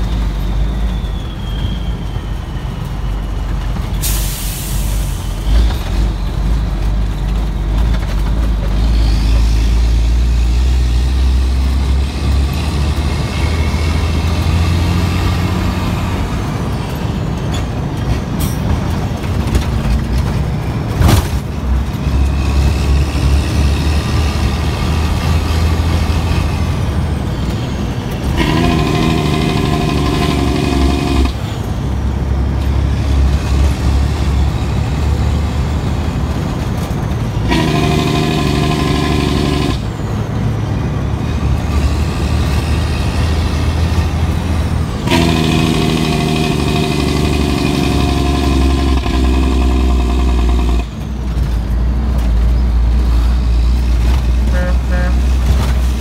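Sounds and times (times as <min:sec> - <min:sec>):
truck diesel engine shifting gears: 0:00.0 - 0:56.0.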